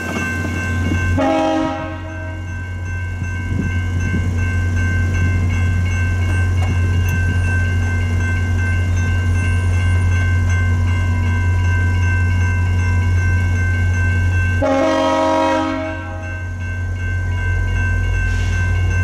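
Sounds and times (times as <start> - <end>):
level-crossing warning bells ringing: 0.0 - 19.0.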